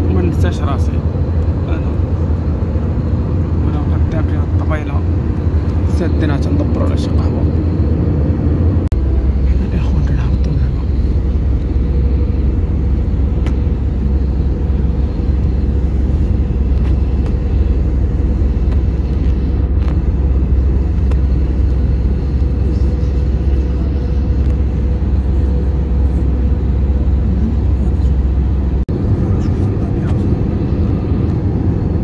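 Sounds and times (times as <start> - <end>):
airliner engine drone: 0.0 - 32.0
thin steady hum: 0.0 - 32.0.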